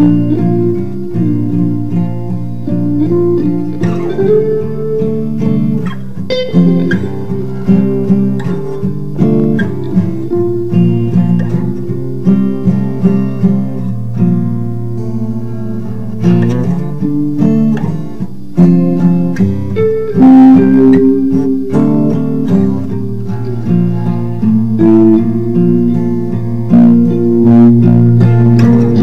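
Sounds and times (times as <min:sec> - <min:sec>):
guitars playing instrumental jam: 0:00.0 - 0:29.0.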